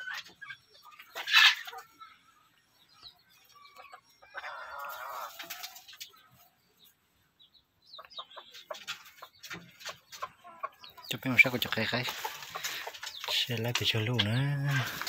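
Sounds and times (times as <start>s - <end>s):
chicken clucking: 0.0s - 15.0s.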